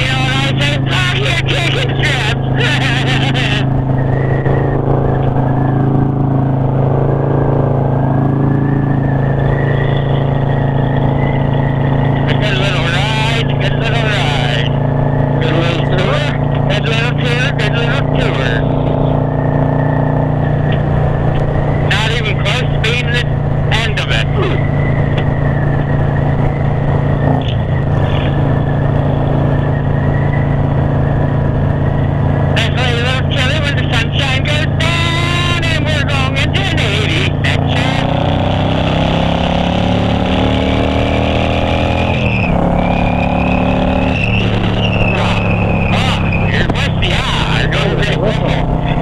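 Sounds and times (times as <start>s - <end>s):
motorcycle engine cruising: 0.0s - 49.0s.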